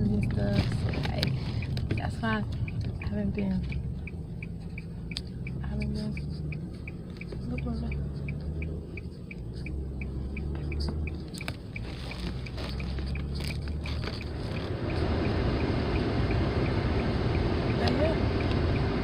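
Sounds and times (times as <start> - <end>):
road and engine rumble: 0.0 - 19.0
steady ticking: 0.0 - 19.0.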